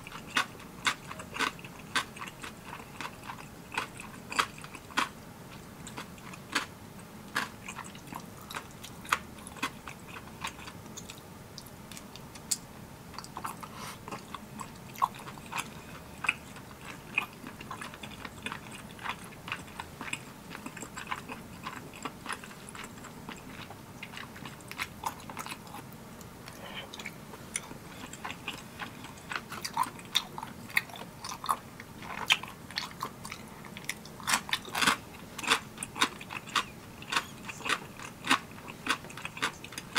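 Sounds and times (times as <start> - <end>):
chewing and mouth sounds: 0.0 - 39.9.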